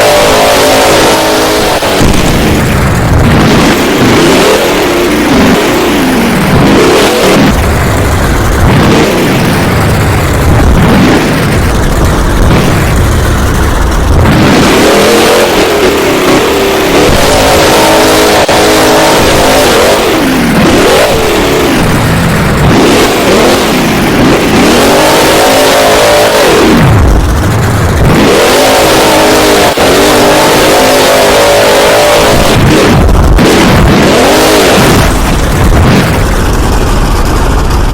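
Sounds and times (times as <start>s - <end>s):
monster truck engine revving: 0.0s - 37.9s.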